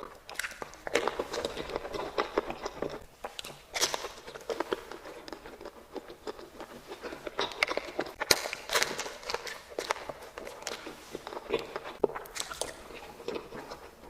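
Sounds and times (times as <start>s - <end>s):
crunchy chewing of sweets: 0.0s - 14.0s.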